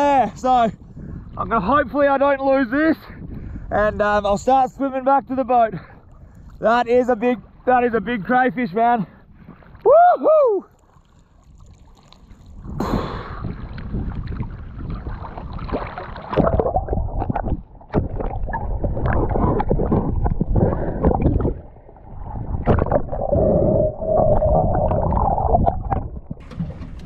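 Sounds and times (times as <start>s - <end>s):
muffled underwater water rushing: 0.0s - 27.0s.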